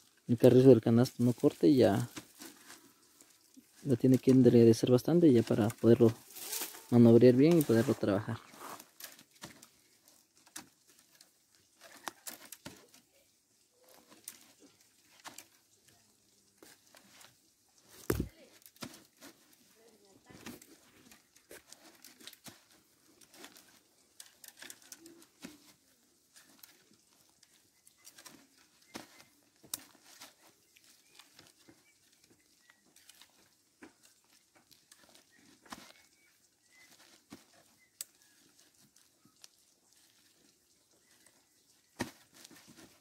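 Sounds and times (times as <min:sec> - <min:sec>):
cane strips clicking and crackling: 0:01.3 - 0:43.0.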